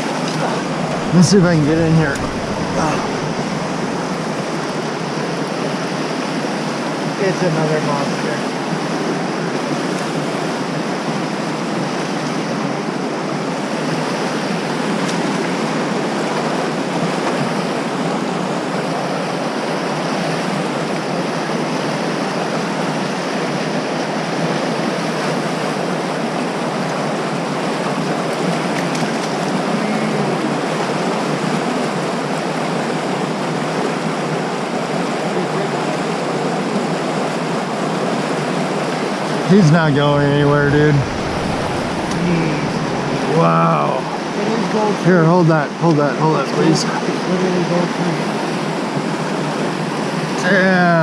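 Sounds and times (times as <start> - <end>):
river rushing over rocks: 0.0 - 45.9.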